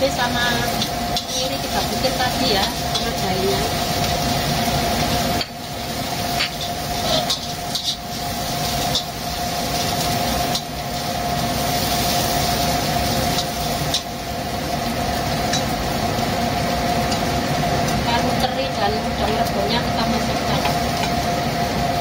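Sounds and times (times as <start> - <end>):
paste frying in pan: 0.0 - 22.0
range hood fan humming: 0.0 - 22.0.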